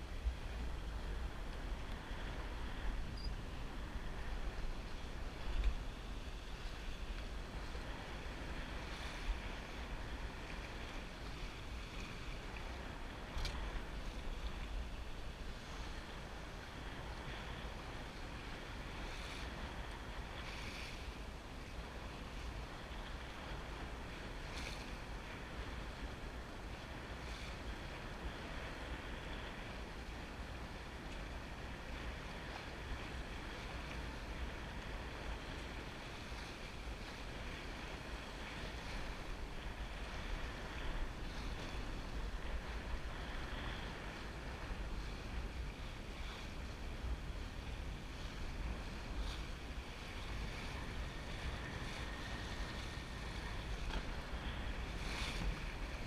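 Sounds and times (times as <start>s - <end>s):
water splashing along a hull: 0.0s - 56.0s
wind buffeting microphone: 0.0s - 56.0s.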